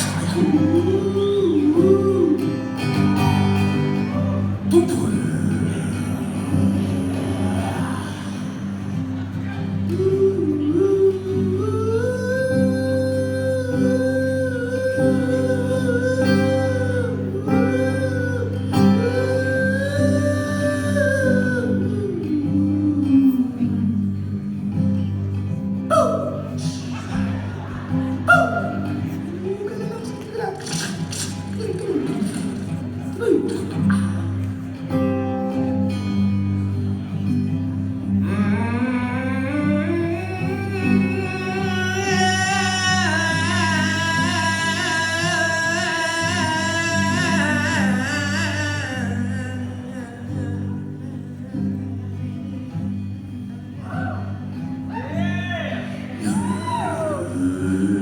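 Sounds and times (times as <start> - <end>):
live band with guitars: 0.0 - 58.0.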